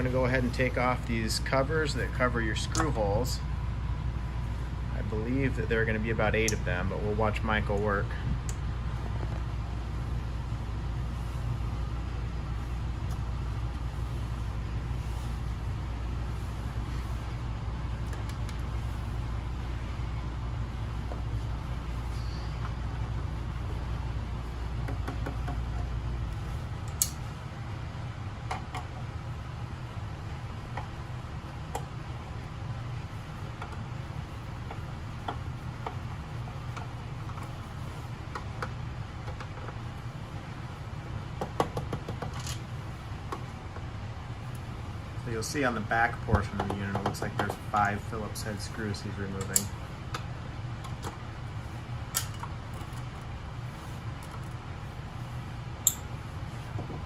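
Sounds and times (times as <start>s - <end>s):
steady low rumble: 0.0s - 41.4s, 42.6s - 57.0s
steady low hum: 0.0s - 57.0s.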